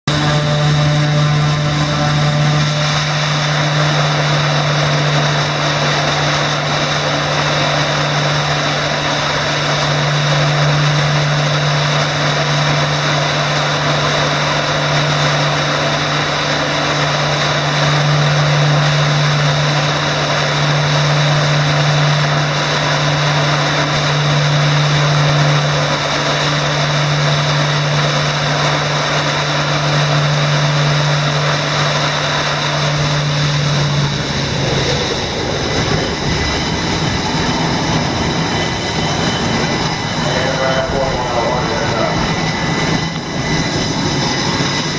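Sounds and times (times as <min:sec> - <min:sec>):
engine humming with high whine: 0:00.0 - 0:44.9.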